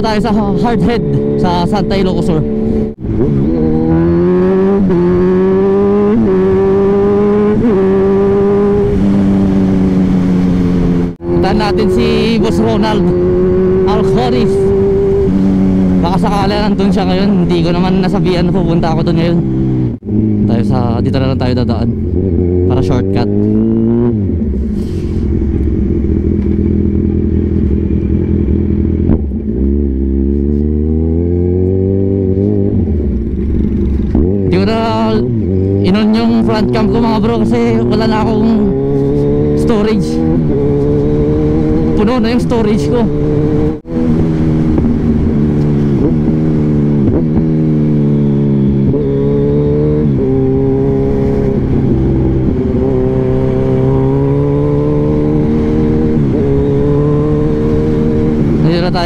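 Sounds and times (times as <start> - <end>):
motorcycle engine running: 0.0 - 59.0
rushing wind noise: 0.0 - 59.0.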